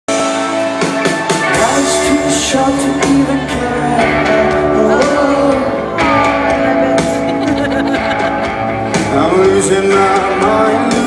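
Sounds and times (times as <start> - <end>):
rock band playing live: 0.1 - 11.0
person singing: 1.4 - 11.0.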